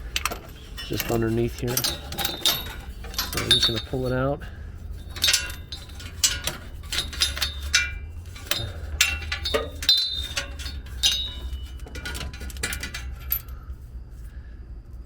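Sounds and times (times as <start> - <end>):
metal cable clinking and rattling: 0.0 - 13.8
steady low hum: 0.0 - 15.0.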